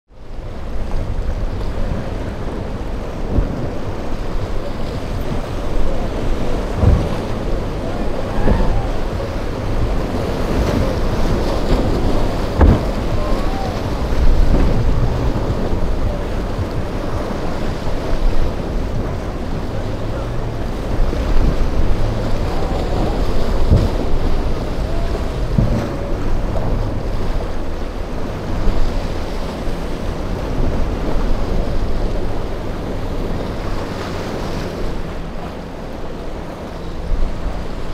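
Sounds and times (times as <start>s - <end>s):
outboard motors droning: 0.1s - 37.9s
surf splashing and churning: 0.1s - 37.9s
wind buffeting microphone: 0.1s - 37.9s.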